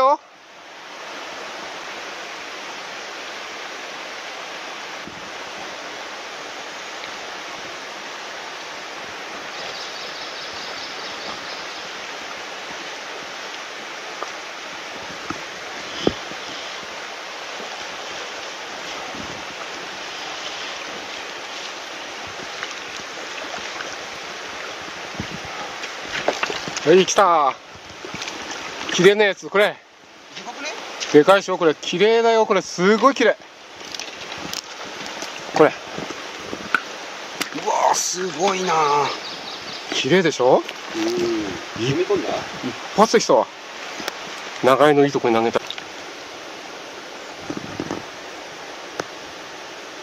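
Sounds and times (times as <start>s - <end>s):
stream rushing over stones: 0.0s - 50.0s.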